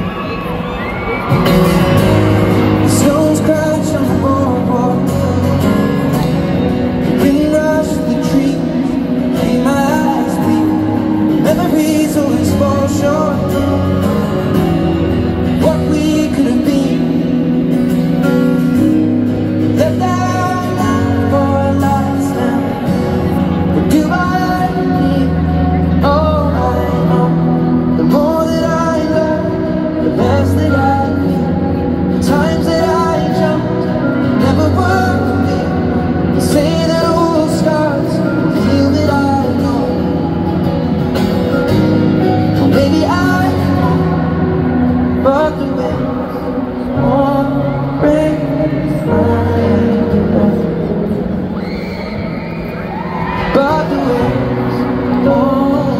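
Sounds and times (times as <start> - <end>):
acoustic guitar: 0.0 - 55.9
piano: 0.0 - 55.9
person singing: 1.3 - 55.9.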